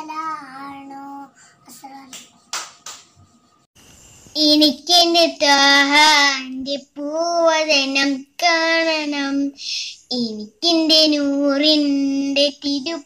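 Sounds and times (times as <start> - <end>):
child singing: 0.0 - 2.3, 4.4 - 13.0.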